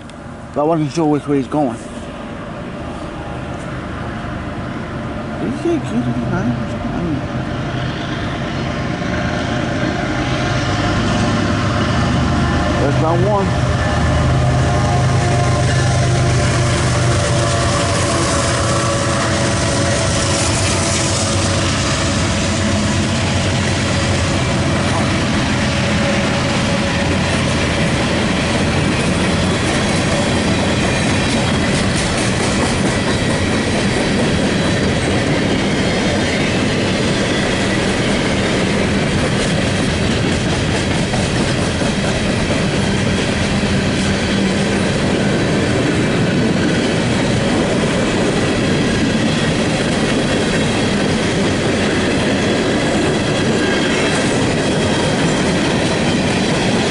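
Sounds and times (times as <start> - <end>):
train wheels on rails: 0.0 - 56.9.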